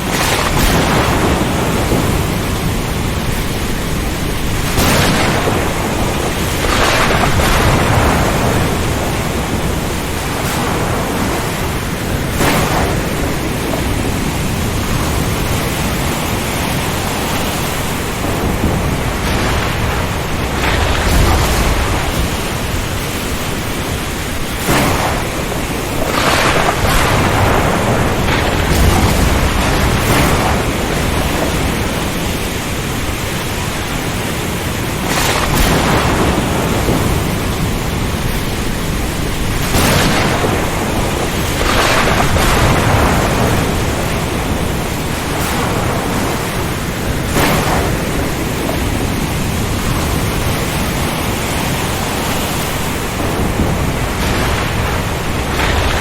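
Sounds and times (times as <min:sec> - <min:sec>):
heavy rain: 0:00.0 - 0:56.0
wind: 0:00.0 - 0:56.0.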